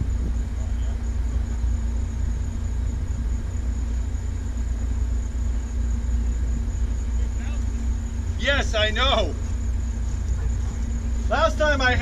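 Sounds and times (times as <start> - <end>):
biplane engine idling: 0.0 - 12.0.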